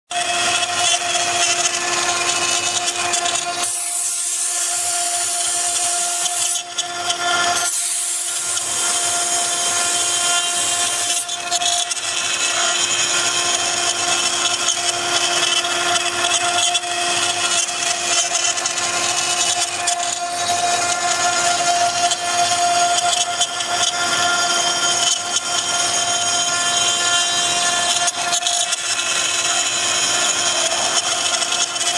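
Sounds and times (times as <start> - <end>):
router bit cutting wood: 0.1 - 31.9
router spindle whine: 0.1 - 31.9.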